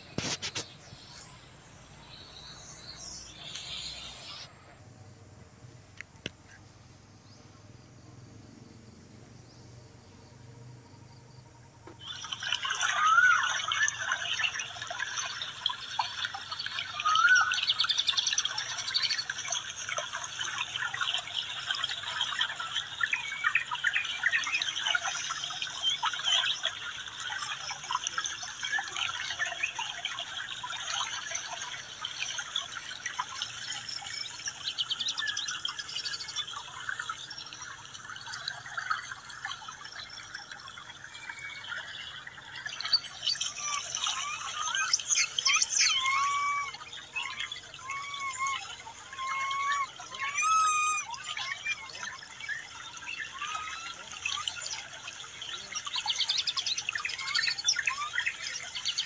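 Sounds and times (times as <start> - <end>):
birds chirping: 0.0 - 4.6, 8.9 - 59.0.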